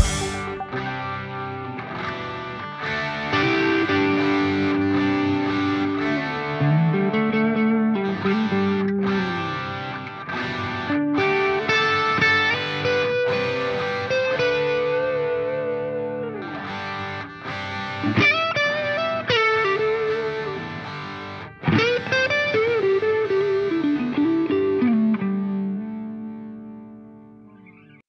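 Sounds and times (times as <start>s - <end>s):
instrumental guitar music: 0.0s - 28.0s.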